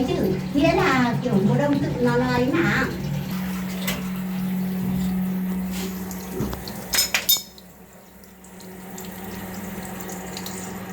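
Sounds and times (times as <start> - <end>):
water running from a tap: 0.0 - 10.9.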